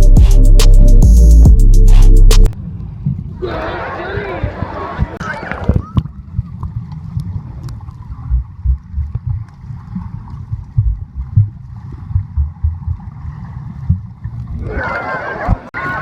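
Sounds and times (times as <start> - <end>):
water sloshing: 2.6 - 15.7.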